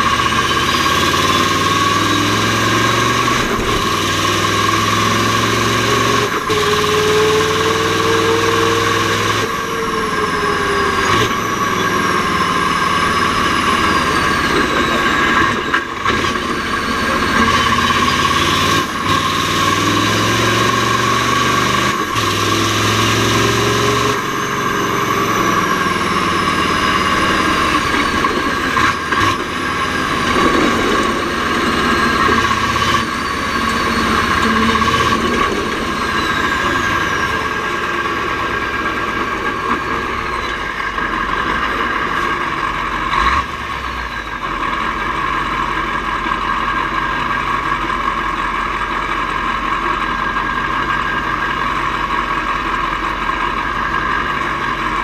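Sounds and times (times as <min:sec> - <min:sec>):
truck diesel engine revving: 0:00.0 - 0:55.0.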